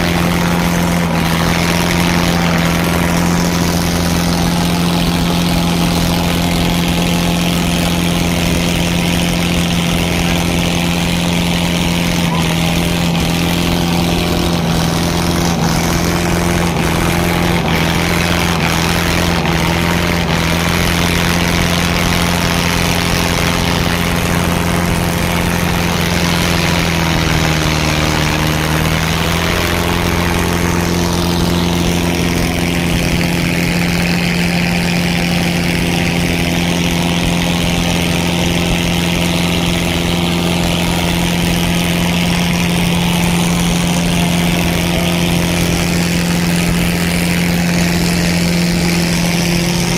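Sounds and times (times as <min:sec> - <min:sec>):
tractor diesel engines running: 0:00.0 - 0:49.9.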